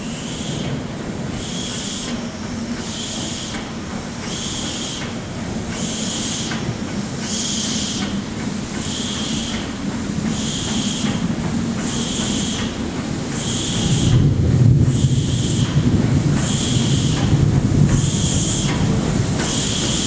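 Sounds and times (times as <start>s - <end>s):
low train rumble: 0.0s - 20.0s
steam locomotive exhaust chuffs: 0.0s - 20.0s.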